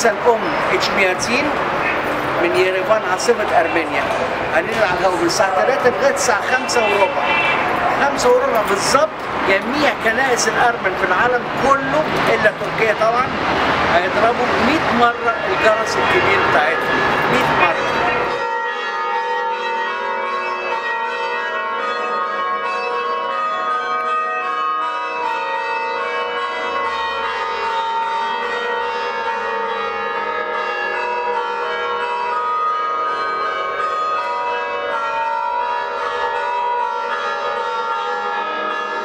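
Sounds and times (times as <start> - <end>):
church bells pealing: 0.0 - 39.0.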